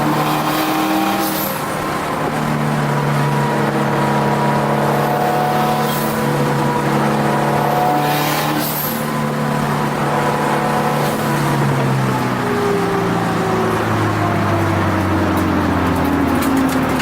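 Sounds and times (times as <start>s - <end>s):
car engine from inside cabin: 0.0s - 17.0s.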